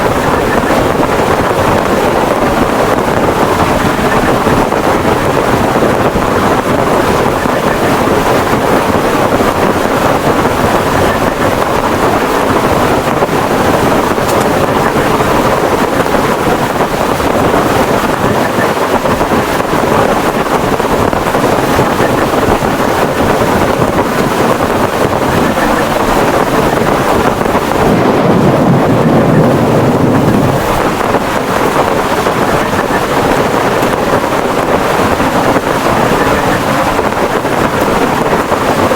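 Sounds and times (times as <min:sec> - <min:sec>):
heavy rain: 0:00.0 - 0:38.9
strong wind: 0:00.0 - 0:38.9.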